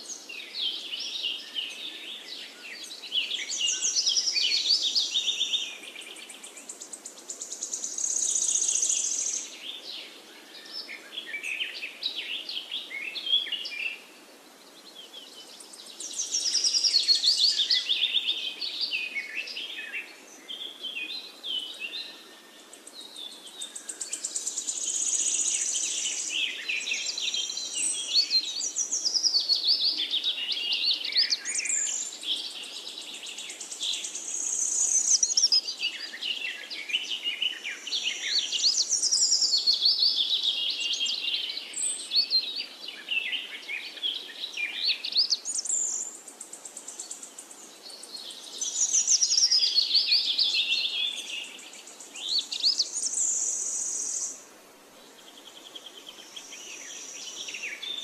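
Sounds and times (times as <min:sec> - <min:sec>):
birds chirping and trilling: 0:00.0 - 0:14.1, 0:14.7 - 0:54.4, 0:55.0 - 0:58.0.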